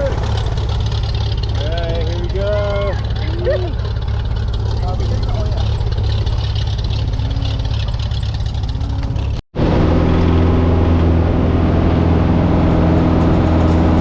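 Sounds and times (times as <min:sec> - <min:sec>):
plane engine droning: 0:00.0 - 0:14.0.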